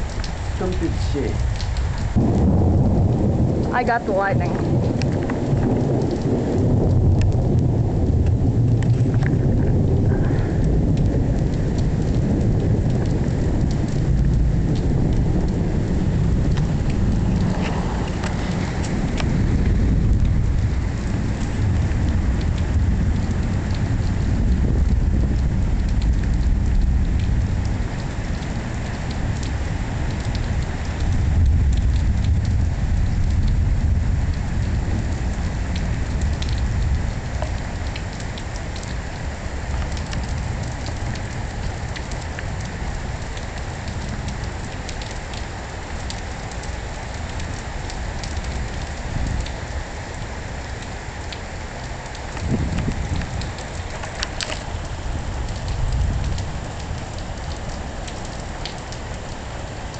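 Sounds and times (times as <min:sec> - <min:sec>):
low thunder rolls: 0:00.0 - 0:59.6
heavy rain pattering: 0:00.0 - 0:59.9.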